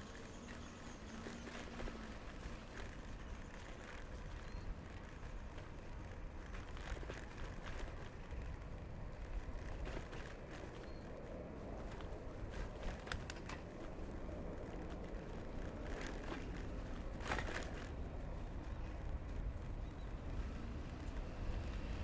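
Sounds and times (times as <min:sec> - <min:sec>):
bicycle clicks and rattles: 0:00.0 - 0:22.0
wind and tyres rumbling: 0:00.0 - 0:22.0.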